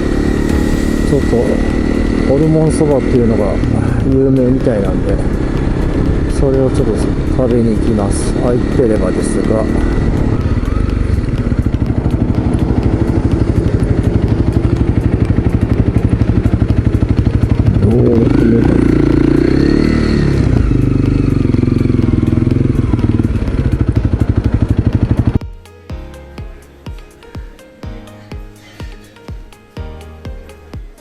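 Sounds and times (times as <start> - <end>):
motorcycle engine running: 0.0 - 25.5.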